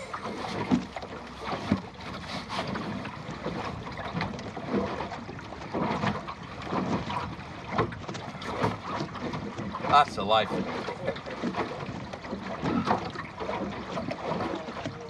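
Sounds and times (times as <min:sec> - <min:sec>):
water splashing against hull: 0:00.0 - 0:15.0.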